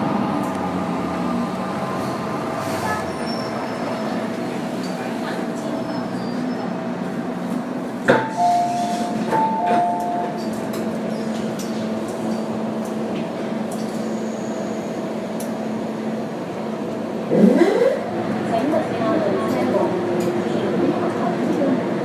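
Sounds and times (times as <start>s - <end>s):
train car hum: 0.0s - 22.0s.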